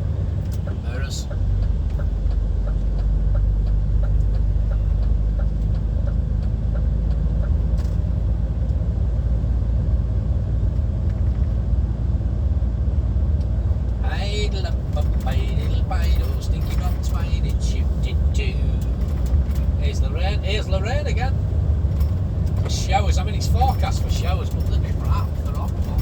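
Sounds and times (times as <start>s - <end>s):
lorry engine and road drone: 0.0s - 26.0s.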